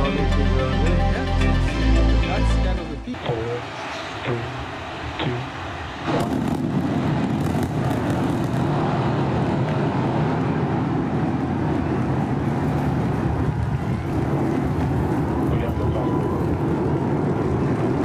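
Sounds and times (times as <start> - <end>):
deep rocket engine rumble: 3.1 - 18.0.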